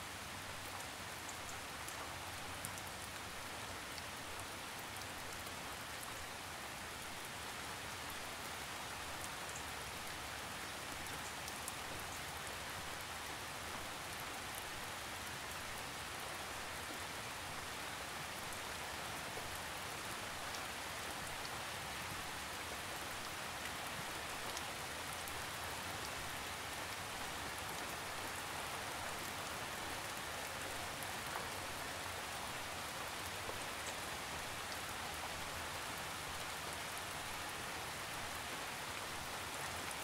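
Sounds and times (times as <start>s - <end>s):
steady rain hiss: 0.0s - 40.0s
faint raindrop ticks: 0.6s - 6.4s, 7.8s - 37.3s.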